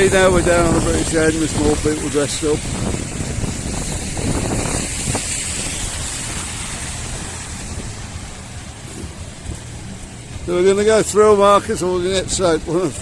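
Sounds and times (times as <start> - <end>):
traffic on wet road: 0.0 - 13.0
wind buffeting microphone: 0.0 - 13.0.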